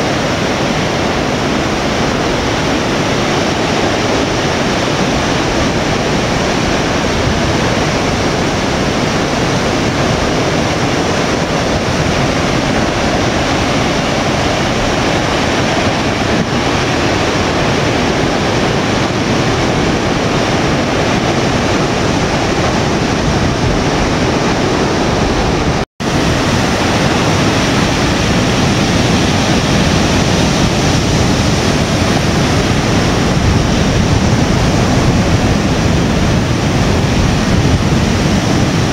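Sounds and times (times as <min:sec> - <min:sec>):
surf breaking on rocks: 0:00.0 - 0:38.9.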